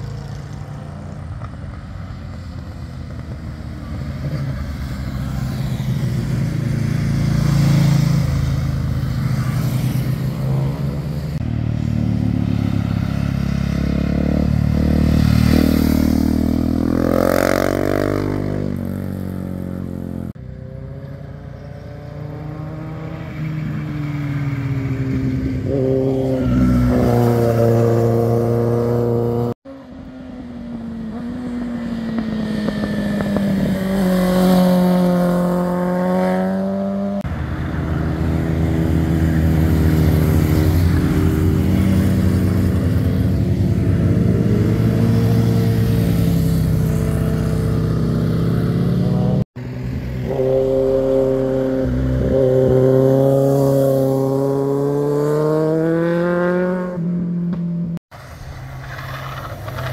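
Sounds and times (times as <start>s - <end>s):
motorcycles accelerating past: 0.0s - 58.0s
cars passing: 0.0s - 59.9s.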